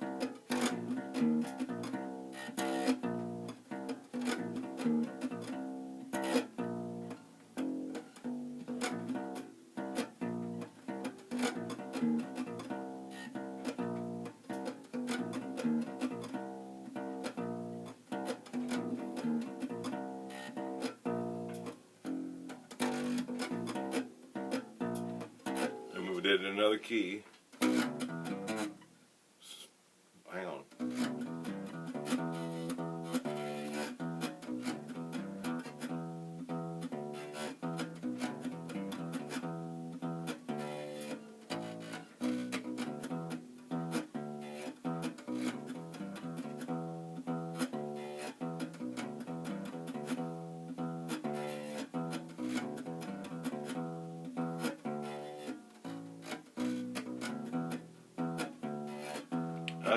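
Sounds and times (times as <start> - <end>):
plucked acoustic bass guitar: 0.0 - 28.8, 30.7 - 59.9.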